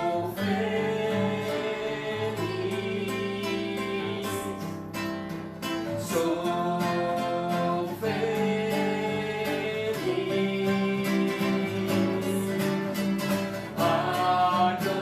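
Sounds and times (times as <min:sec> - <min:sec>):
person singing: 0:00.0 - 0:04.9, 0:05.8 - 0:15.0
strummed acoustic guitar: 0:00.0 - 0:15.0.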